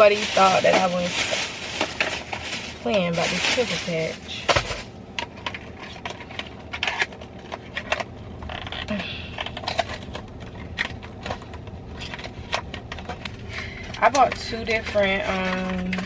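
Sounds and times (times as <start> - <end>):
faint steady hum: 0.0 - 16.0
handling clicks and rustles: 0.0 - 16.0.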